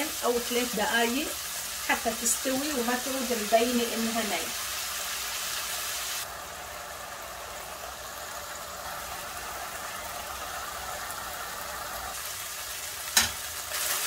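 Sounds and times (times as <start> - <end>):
meat sizzling in a pot: 0.0 - 14.0.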